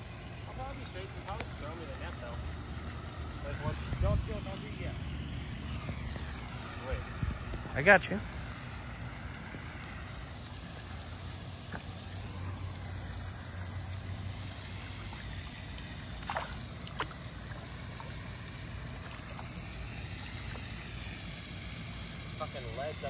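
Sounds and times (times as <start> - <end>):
low hum: 0.0 - 22.4
fountain spray rushing: 0.0 - 23.0.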